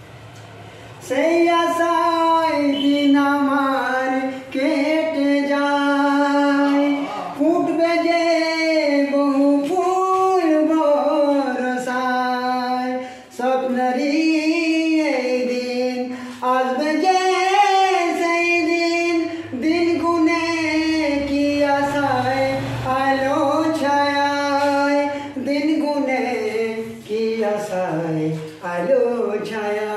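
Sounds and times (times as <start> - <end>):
man singing wordless melody: 1.0 - 29.9.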